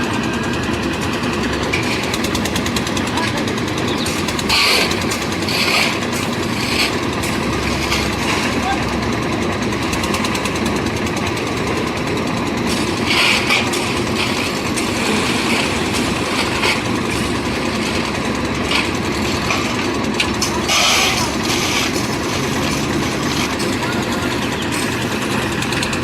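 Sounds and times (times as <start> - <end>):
concrete mixer engine running: 0.0 - 26.0
rattling bursts: 0.3 - 26.0.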